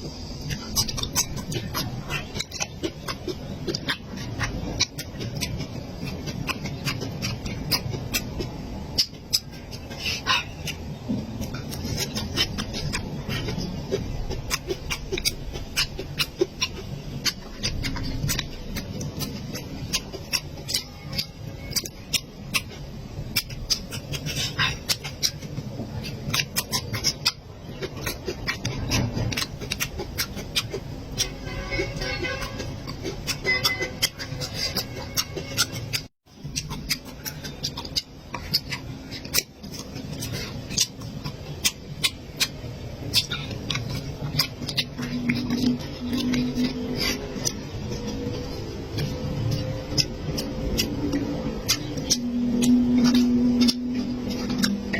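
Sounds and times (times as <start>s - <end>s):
wet mouth clicks and smacks: 0.0s - 31.3s, 32.4s - 54.9s
person chewing: 0.0s - 54.9s.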